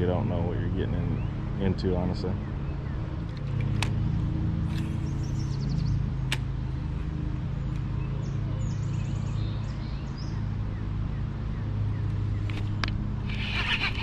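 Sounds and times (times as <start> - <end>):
low mechanical hum: 0.0 - 14.0
small birds chirping: 0.6 - 14.0.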